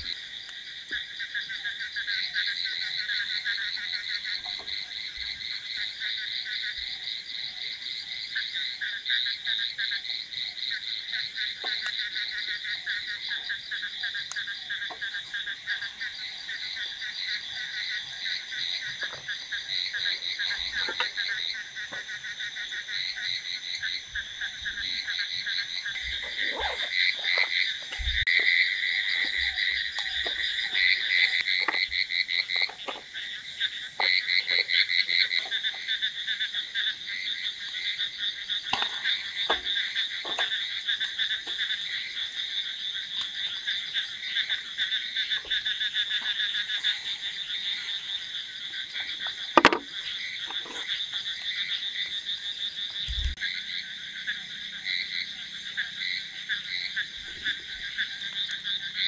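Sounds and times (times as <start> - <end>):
frogs croaking: 0.0 - 59.0.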